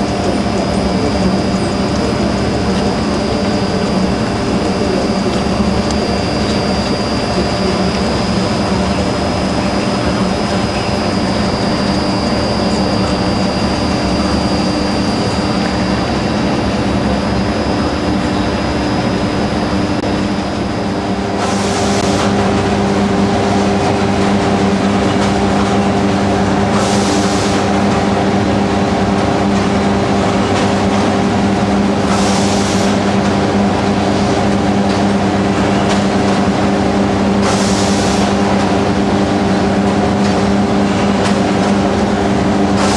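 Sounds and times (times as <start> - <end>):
plant machinery humming: 0.0 - 42.9.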